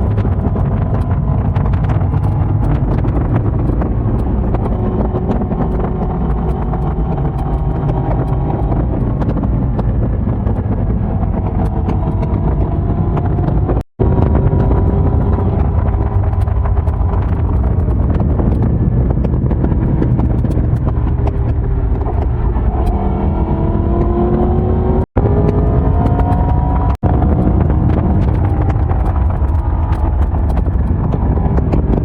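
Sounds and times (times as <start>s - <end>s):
motorcycle engine running: 0.0s - 32.0s
wind noise on microphone: 0.0s - 32.0s.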